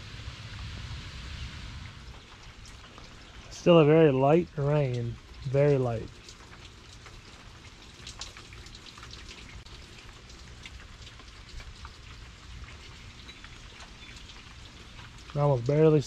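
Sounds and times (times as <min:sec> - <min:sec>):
light rain falling: 0:00.0 - 0:16.0
raindrops ticking on wood and plastic: 0:01.8 - 0:16.0.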